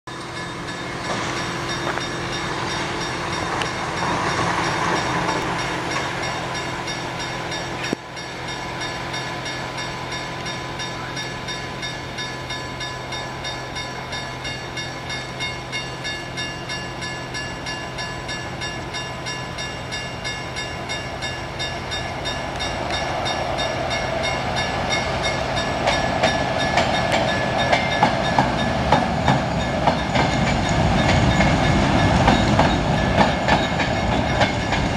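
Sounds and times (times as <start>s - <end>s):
level crossing warning bell: 0.1s - 34.9s
train rumble: 0.1s - 34.9s.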